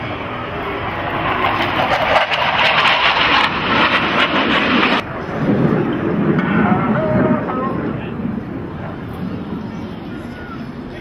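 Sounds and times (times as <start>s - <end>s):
jet engine roar with crackle: 0.0s - 11.0s.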